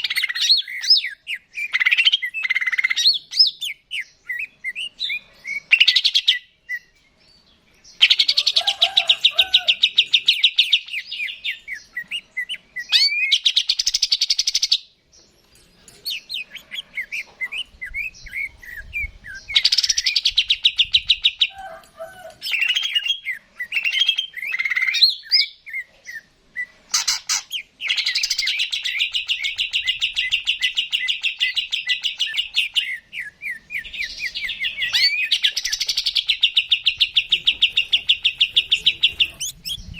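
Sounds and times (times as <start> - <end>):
bird trilling and chirping: 0.0 - 39.9.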